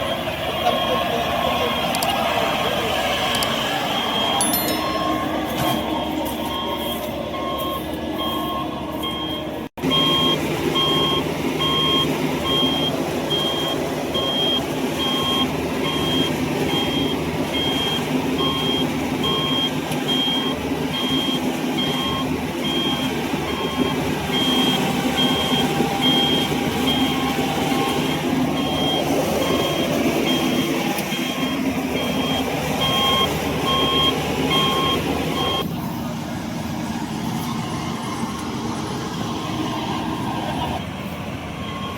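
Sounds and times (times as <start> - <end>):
reversing alarm beeping: 0.0 - 35.7, 41.6 - 41.9
diesel engine running: 0.0 - 41.9.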